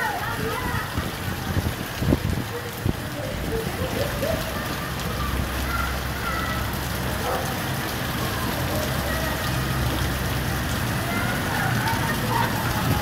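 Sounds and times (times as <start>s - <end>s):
rain falling on flooded street: 0.0s - 13.0s.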